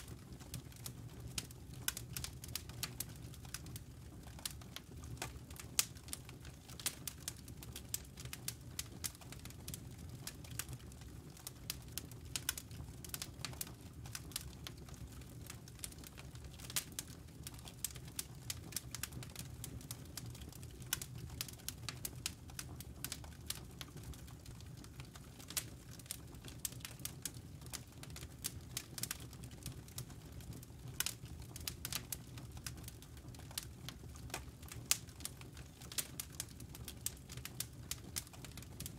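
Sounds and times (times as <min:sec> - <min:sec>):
burning logs crackling: 0:00.0 - 0:38.9.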